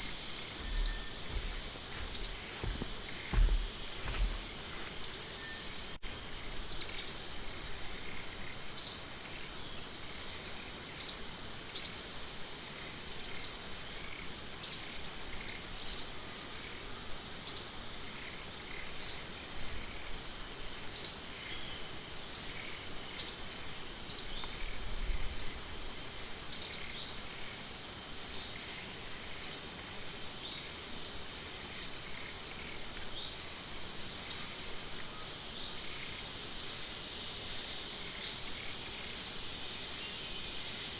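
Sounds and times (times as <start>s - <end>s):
high-pitched insect drone: 0.0s - 40.9s.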